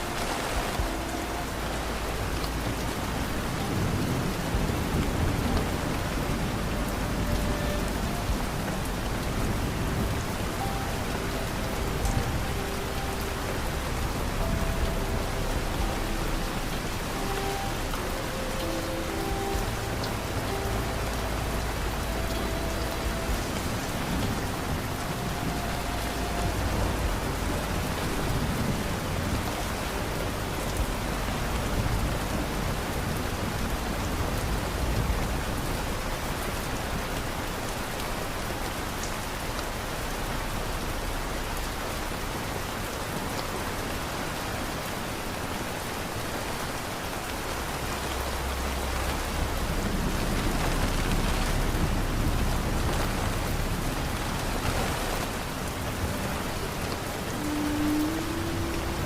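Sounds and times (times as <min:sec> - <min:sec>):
low rumble: 0:00.0 - 0:59.0
steady rain falling: 0:00.0 - 0:59.0.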